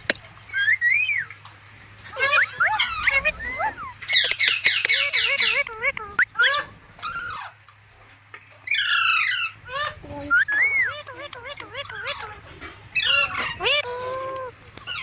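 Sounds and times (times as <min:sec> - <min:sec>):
parakeets chirping and squawking: 0:02.0 - 0:07.6, 0:08.6 - 0:15.0.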